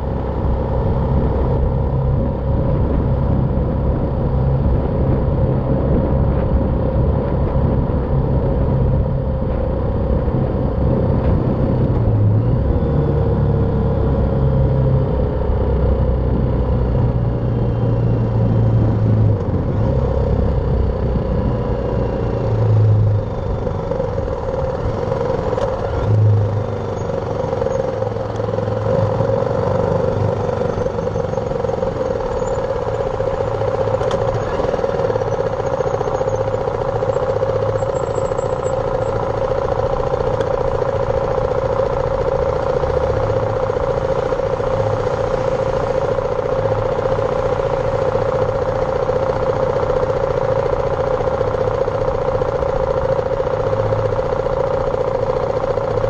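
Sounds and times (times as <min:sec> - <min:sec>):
motorcycle engine running: 0:00.0 - 0:56.0
road noise: 0:00.0 - 0:56.0.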